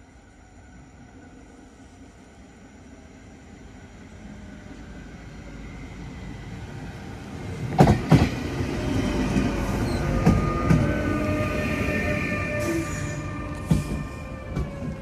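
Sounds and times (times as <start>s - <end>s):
passenger train passing: 0.0s - 15.0s.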